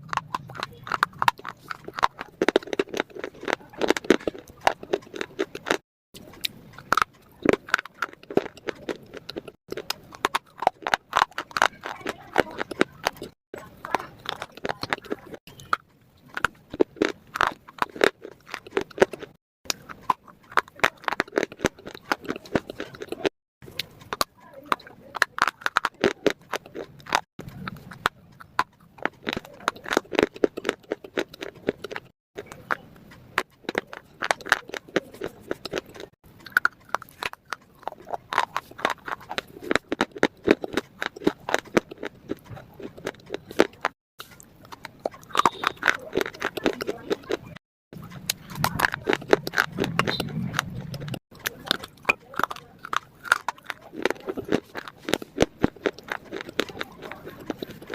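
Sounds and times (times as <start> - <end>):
chewing crunchy food: 0.0 - 57.9.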